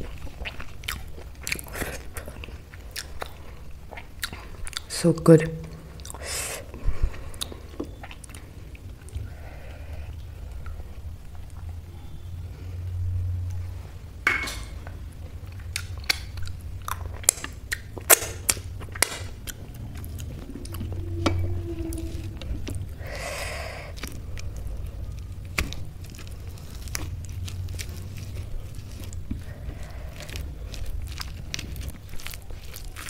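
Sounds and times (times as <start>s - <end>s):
steady low hum: 0.0s - 32.5s.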